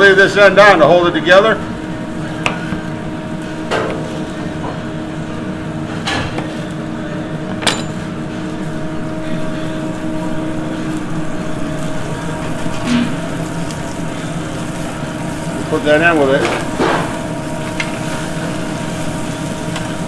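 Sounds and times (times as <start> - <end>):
kitchen hum: 0.0 - 20.0.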